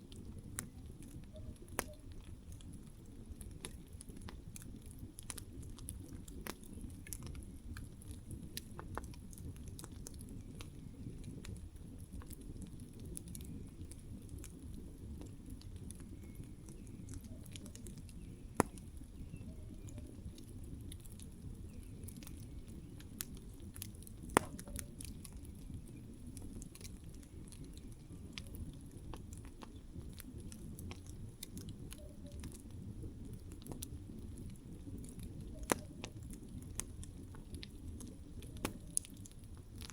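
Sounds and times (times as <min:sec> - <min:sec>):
burning wood crackling and popping: 0:00.0 - 0:39.9
campfire flames rumbling: 0:00.0 - 0:39.9.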